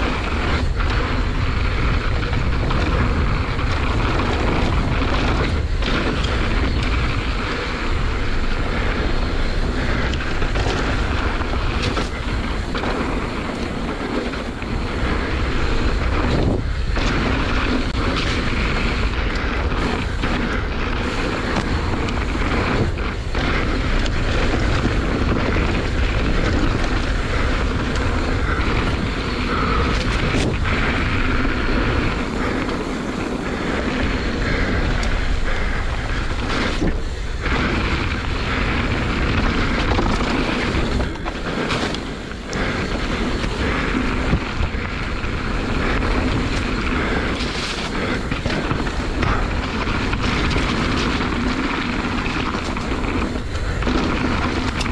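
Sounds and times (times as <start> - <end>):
bike knocking over rough ground: 0.0 - 54.9
bike tyre noise: 0.0 - 54.9
wind on microphone: 0.0 - 54.9.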